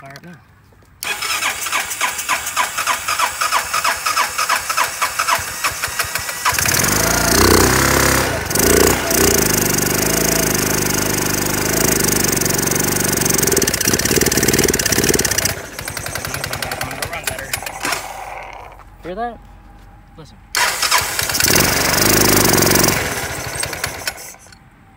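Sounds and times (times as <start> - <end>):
scooter engine revving: 1.0 - 18.8, 20.6 - 24.6
electric starter cranking: 1.0 - 18.9, 20.6 - 24.6.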